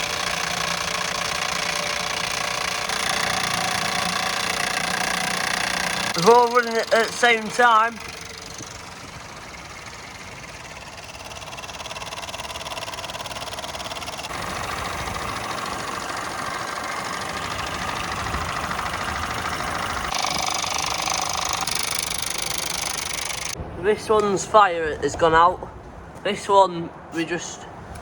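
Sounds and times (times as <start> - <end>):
steam engine exhaust chuffing: 0.0 - 23.6.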